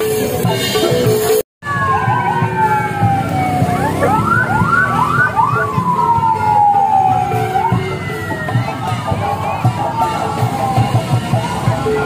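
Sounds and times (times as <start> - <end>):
electronic vehicle siren: 1.6 - 12.0.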